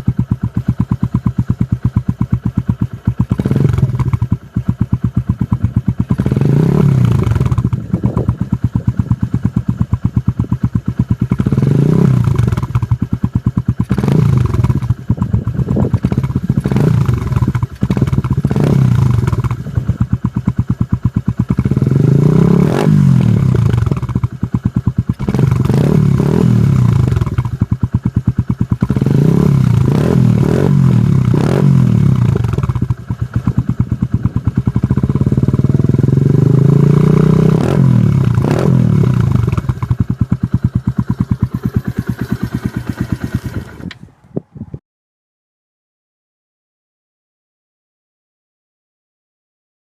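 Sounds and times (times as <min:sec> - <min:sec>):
motorcycle engine idling and revving: 0:00.0 - 0:44.6.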